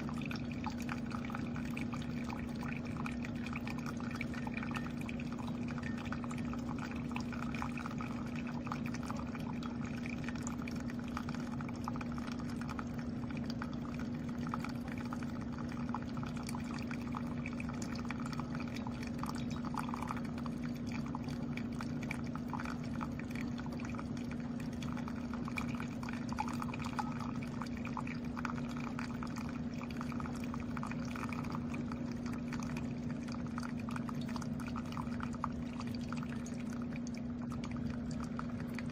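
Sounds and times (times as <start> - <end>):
coffee maker pump hum: 0.0 - 38.9
liquid streaming and pouring: 0.0 - 38.9.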